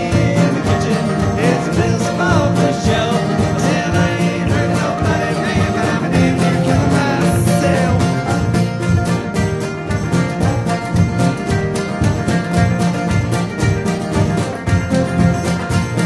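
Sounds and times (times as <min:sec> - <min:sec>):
acoustic guitars strumming: 0:00.0 - 0:16.0
upright bass: 0:00.0 - 0:16.0.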